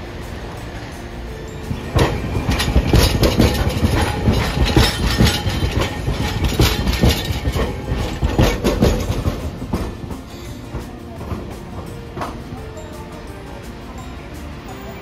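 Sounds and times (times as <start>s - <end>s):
tram rumble: 0.0s - 15.0s
tram wheels clattering over tracks: 0.0s - 15.0s.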